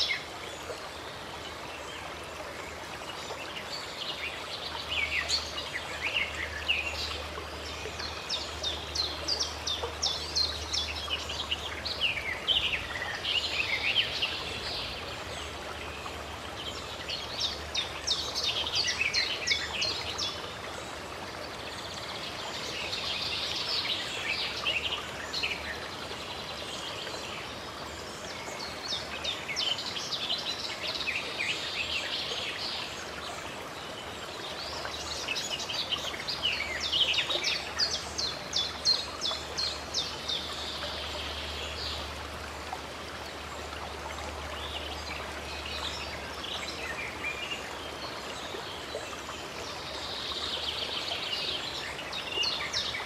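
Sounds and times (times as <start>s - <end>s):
running water: 0.0s - 53.0s
songbirds chirping: 0.0s - 53.0s.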